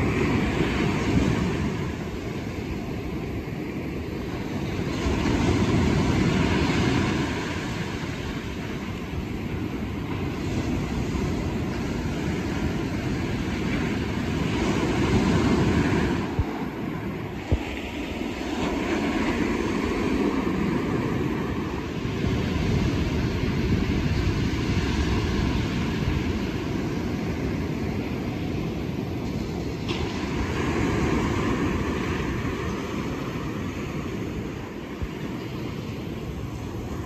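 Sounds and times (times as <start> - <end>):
ocean waves breaking: 0.0 - 37.0
wind rumbling on microphone: 0.0 - 37.0.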